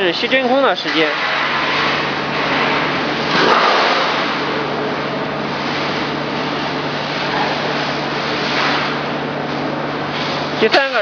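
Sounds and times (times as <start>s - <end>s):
vacuum press hum and hiss: 0.0s - 11.0s.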